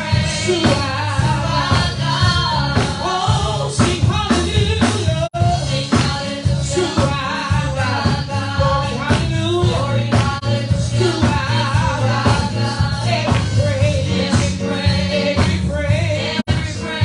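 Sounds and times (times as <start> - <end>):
gospel band with sung melody: 0.0 - 17.0.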